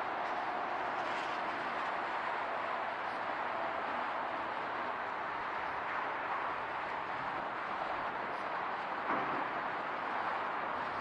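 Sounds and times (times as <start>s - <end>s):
jet airliner engines at takeoff: 0.0s - 11.0s.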